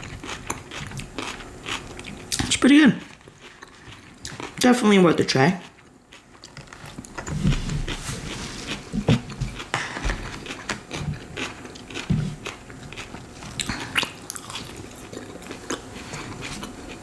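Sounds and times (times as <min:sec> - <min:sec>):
person chewing food: 0:00.0 - 0:04.6, 0:05.6 - 0:17.0.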